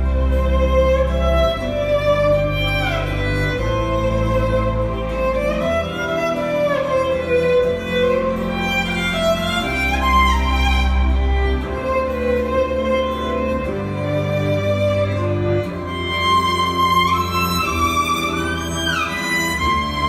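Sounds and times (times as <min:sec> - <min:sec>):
sustained low accompaniment: 0:00.0 - 0:20.0
violin melody: 0:00.0 - 0:20.0.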